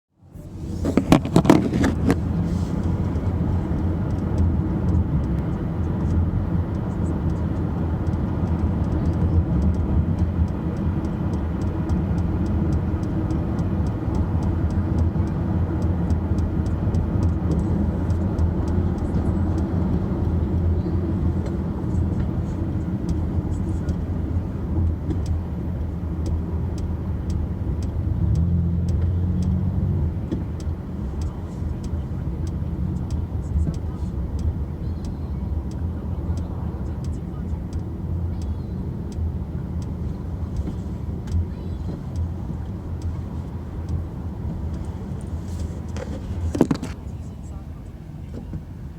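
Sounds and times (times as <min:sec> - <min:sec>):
car engine rumble: 0:00.1 - 0:48.9.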